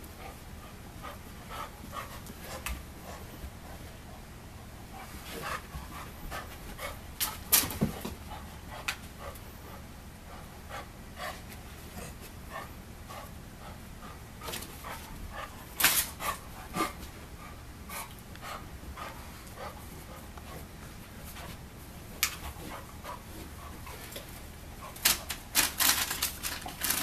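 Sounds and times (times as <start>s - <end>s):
dog panting: 0.0s - 21.6s, 22.4s - 25.3s.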